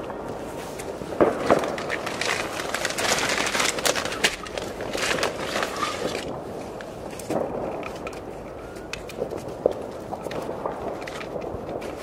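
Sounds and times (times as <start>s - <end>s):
fireworks crackling: 0.0s - 12.0s
fireworks popping and banging: 0.0s - 12.0s.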